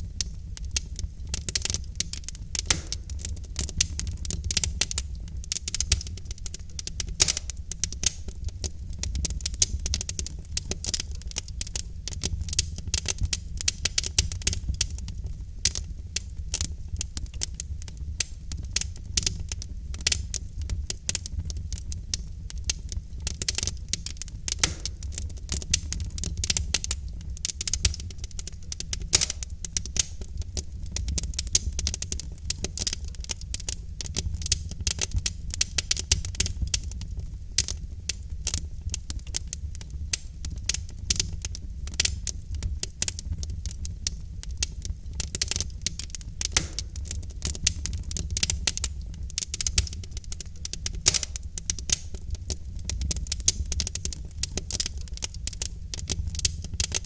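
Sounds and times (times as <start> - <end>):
burning logs crackling and popping: 0.0 - 57.0
low rumble of fire: 0.0 - 57.0.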